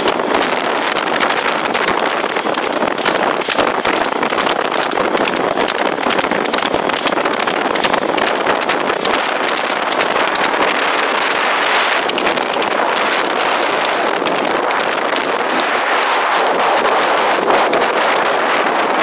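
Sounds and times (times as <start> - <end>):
hooves clattering on tarmac: 0.0 - 19.0
wind noise: 0.0 - 19.0.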